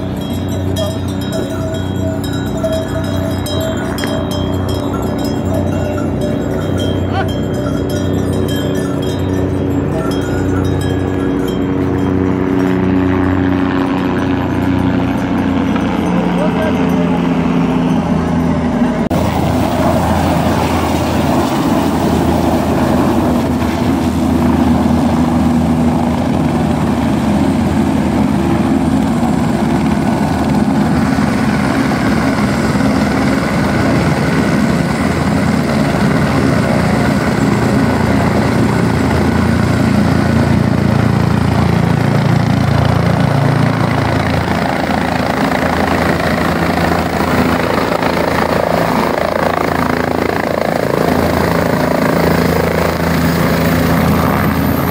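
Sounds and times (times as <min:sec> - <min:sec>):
helicopter turbines and rotors: 0:00.0 - 0:54.9.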